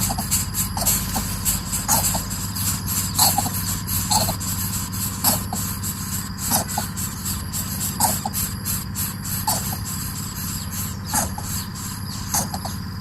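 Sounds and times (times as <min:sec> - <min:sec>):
chicks calling: 0:00.0 - 0:13.0
low hum: 0:00.0 - 0:13.0.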